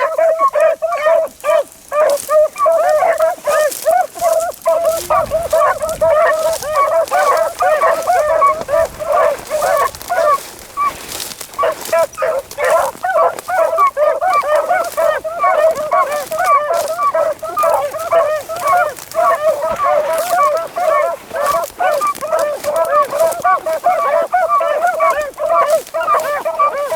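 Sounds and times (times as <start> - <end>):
pack of dogs baying: 0.0 - 26.9.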